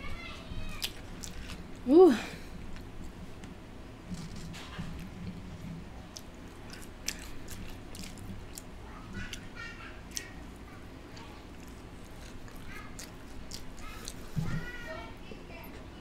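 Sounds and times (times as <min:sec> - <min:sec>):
person chewing: 0:00.7 - 0:03.5, 0:04.1 - 0:14.6.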